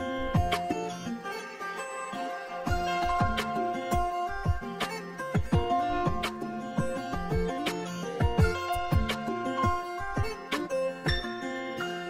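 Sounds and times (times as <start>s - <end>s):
instrumental music held notes: 0.0s - 12.0s.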